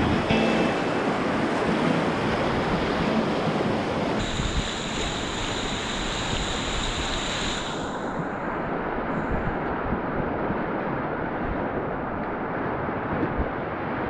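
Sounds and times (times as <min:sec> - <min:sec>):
high whine: 0:00.0 - 0:12.2
whitewater rushing: 0:00.0 - 0:14.0
wind on microphone: 0:00.0 - 0:14.0.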